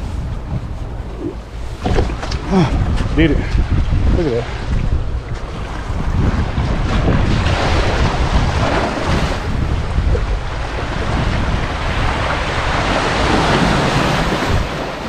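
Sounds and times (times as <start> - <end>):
sea waves washing onto shore: 0.0 - 15.0
wind rumbling on microphone: 0.0 - 15.0.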